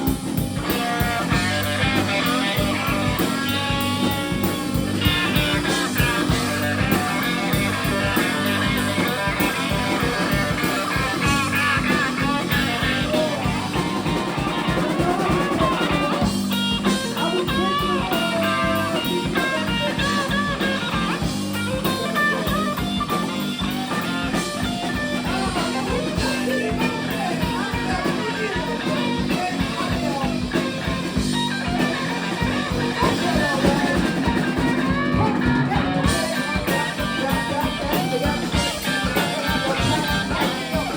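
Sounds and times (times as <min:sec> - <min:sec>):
bass guitar: 0:00.0 - 0:40.9
drums: 0:00.0 - 0:40.9
electric guitar: 0:00.0 - 0:40.9.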